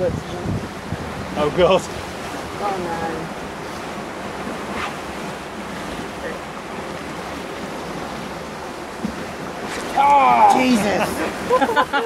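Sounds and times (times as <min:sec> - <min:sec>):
wind buffeting microphone: 0:00.0 - 0:10.5
rushing river rapids: 0:00.0 - 0:12.0.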